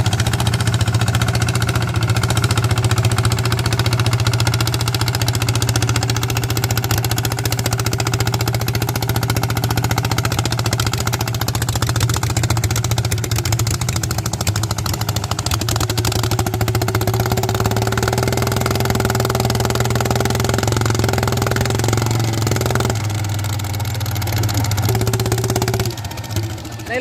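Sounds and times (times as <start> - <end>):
single-cylinder diesel engine running: 0.0 - 27.0.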